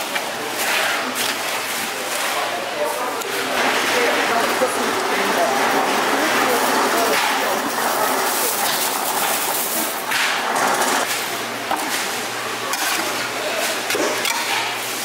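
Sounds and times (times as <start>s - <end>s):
noisy background: 0.0s - 15.0s.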